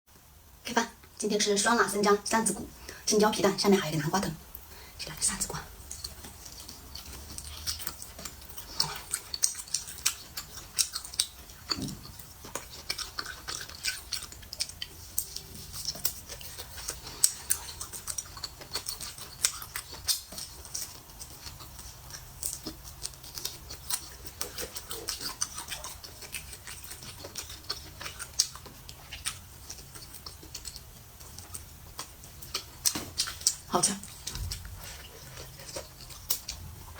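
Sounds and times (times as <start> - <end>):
person chewing with mouth clicks: 4.5 - 36.9.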